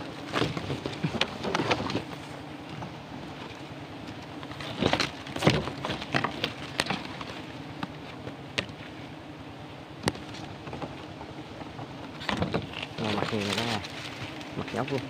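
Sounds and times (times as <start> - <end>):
twigs and leaves crackling: 0.0 - 9.2, 9.9 - 15.0
steady low hum: 0.0 - 15.0.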